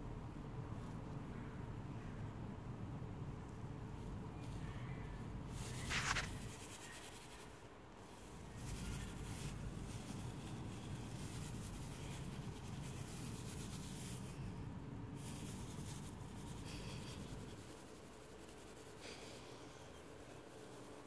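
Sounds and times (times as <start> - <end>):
long grass rustling: 3.9 - 21.0.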